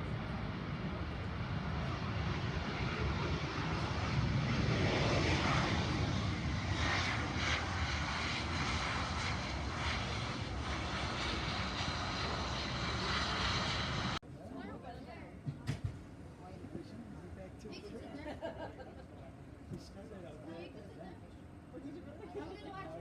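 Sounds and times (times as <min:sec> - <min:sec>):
aircraft engine roar: 0:00.0 - 0:23.0.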